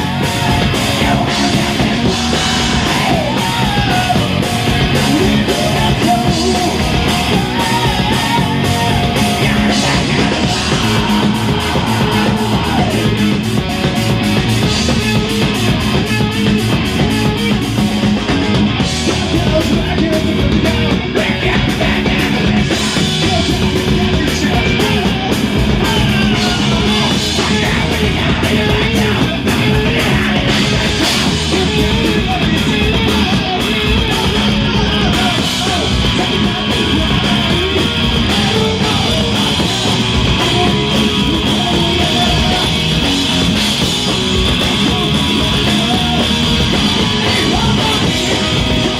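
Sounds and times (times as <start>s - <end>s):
drum kit: 0.0s - 48.9s
electric guitars: 0.0s - 48.9s.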